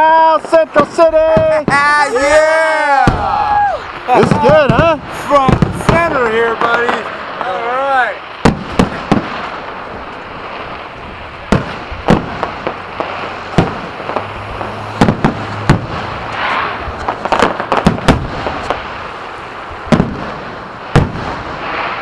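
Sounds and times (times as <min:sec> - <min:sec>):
fireworks bangs and pops: 0:00.0 - 0:22.0
fireworks crackling: 0:00.0 - 0:22.0.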